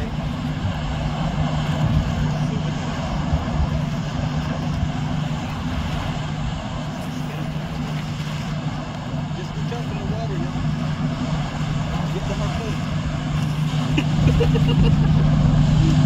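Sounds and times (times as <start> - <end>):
low engine drone: 0.0 - 16.0
wind buffeting microphone: 0.0 - 16.0.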